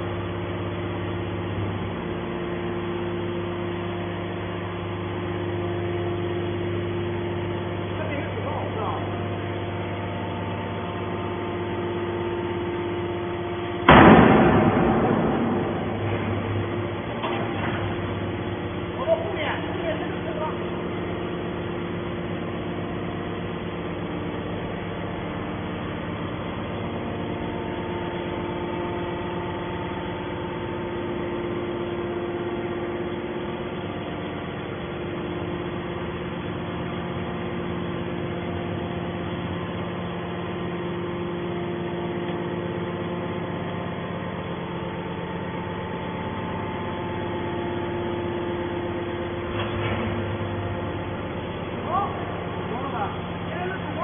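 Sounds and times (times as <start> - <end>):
hydraulic baler motor humming: 0.0 - 54.0.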